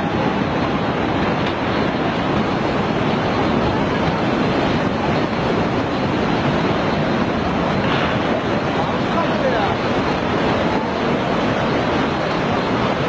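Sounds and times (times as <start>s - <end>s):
floodwater rushing: 0.0s - 13.0s
wind noise on microphone: 0.0s - 13.0s.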